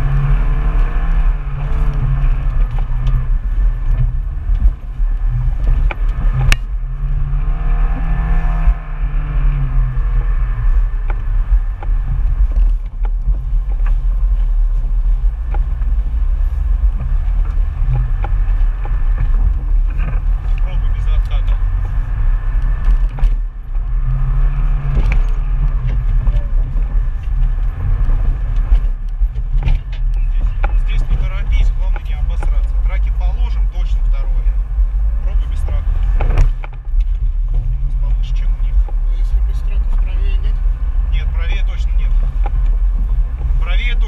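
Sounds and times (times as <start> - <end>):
body and suspension knocks and rattles: 0.0 - 8.8, 9.7 - 44.0
off-road vehicle engine under load: 0.0 - 44.0.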